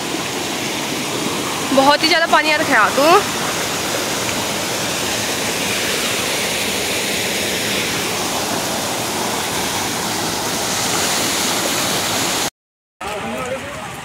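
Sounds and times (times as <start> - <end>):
water cascading over wall: 0.0 - 14.0
water splashing into pool: 0.0 - 14.0.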